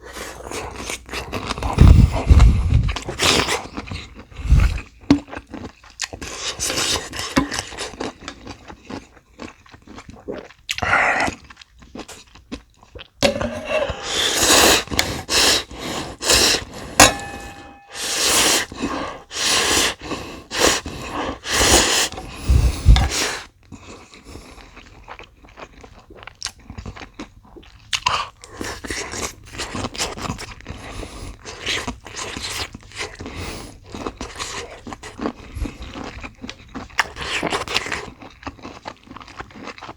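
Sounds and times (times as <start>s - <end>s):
chewing and crunching food: 0.0s - 13.2s, 18.9s - 39.9s.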